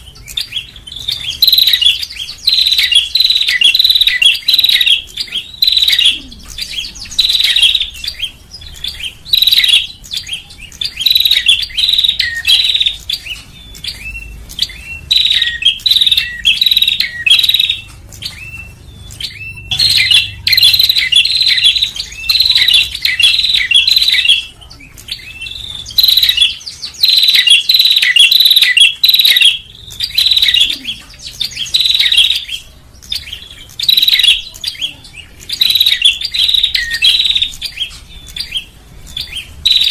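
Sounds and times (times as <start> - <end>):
bird rapid chirping calls: 0.0 - 39.9.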